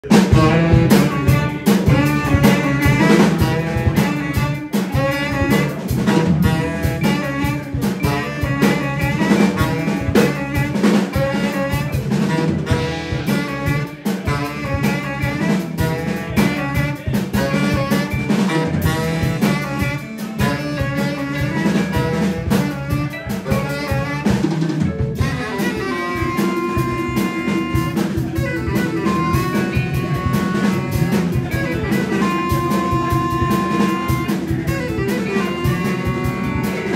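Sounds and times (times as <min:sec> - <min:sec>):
drum kit: 0:00.0 - 0:36.9
electric bass: 0:00.0 - 0:36.9
keyboard: 0:00.0 - 0:36.9
saxophone: 0:00.0 - 0:36.9.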